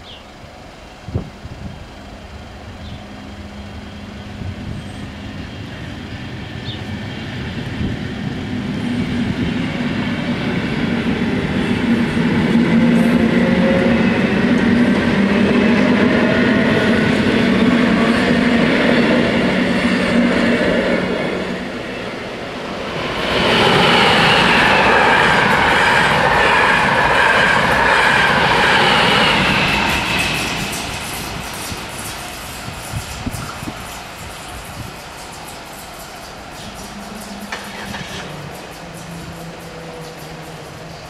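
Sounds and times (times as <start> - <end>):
electric train passing: 0.0 - 41.0.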